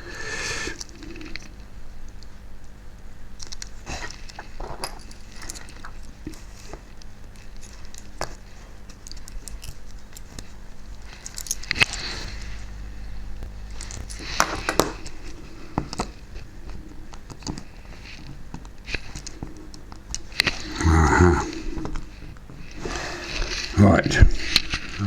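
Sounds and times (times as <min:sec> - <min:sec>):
low steady hum: 0:00.0 - 0:25.0
parts clattering: 0:03.4 - 0:25.0.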